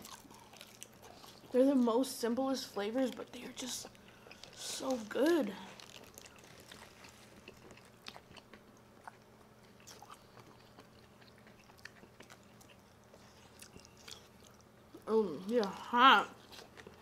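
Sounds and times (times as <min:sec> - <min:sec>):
faint chewing and biting: 0:00.0 - 0:01.9, 0:02.9 - 0:15.0, 0:15.6 - 0:17.0
low room hum: 0:00.0 - 0:17.0.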